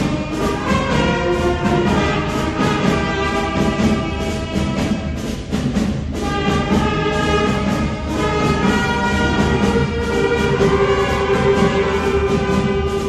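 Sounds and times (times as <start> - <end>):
wind band playing: 0.0 - 13.0.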